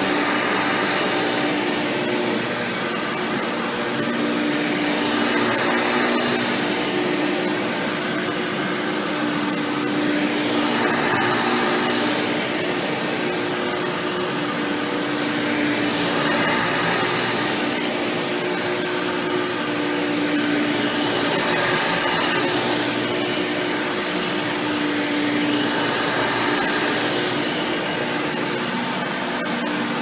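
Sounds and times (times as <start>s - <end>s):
vacuum cleaner motor humming: 0.0s - 30.0s.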